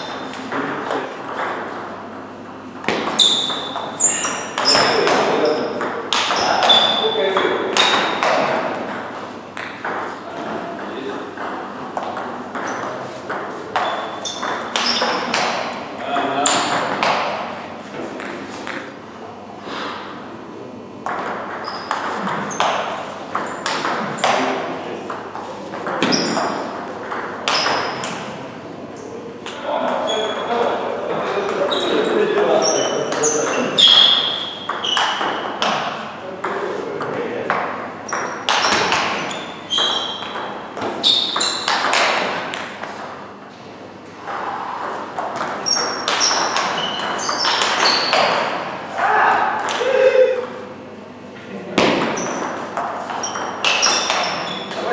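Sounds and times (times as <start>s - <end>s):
ping pong ball hits: 0.0s - 17.5s, 18.1s - 19.0s, 21.0s - 28.3s, 28.9s - 43.5s, 44.2s - 48.7s, 49.3s - 50.7s, 51.8s - 54.9s.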